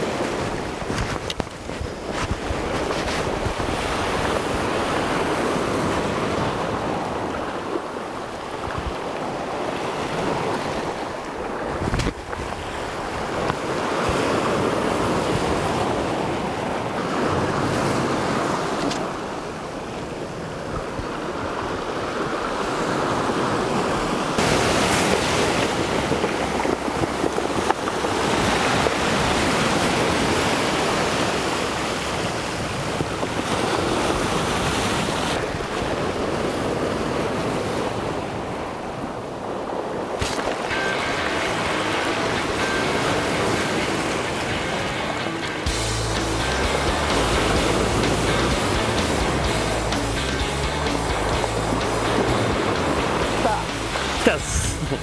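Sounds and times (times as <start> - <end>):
sea surf breaking over rocks: 0.0 - 55.0.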